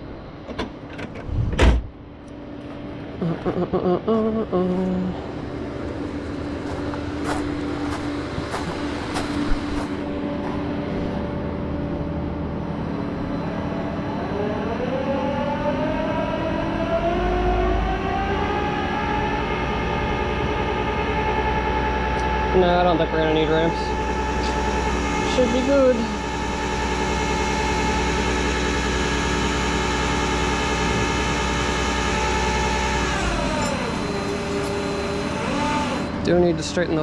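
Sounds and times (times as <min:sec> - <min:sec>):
tow truck machinery hum: 0:00.0 - 0:37.0
rising multi-tone whine: 0:01.2 - 0:37.0.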